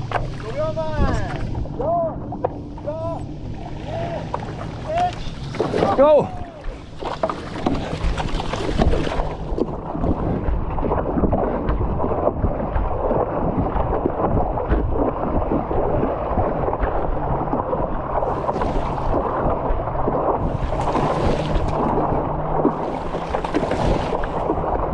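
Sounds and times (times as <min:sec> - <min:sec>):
water splashing around paddle: 0:00.0 - 0:24.9
wind buffeting microphone: 0:00.0 - 0:24.9.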